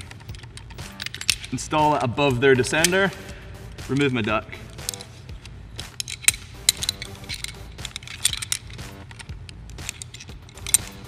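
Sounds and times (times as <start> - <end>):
metal climbing hardware clinking: 0.0 - 11.0.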